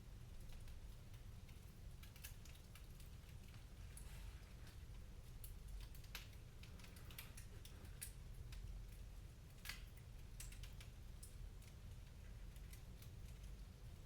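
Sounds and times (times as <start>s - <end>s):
wood fire crackling: 0.1s - 14.0s.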